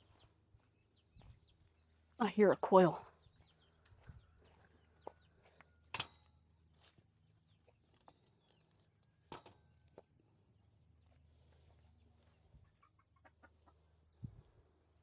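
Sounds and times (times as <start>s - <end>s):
poultry clucking and chirping: 0.0s - 15.0s.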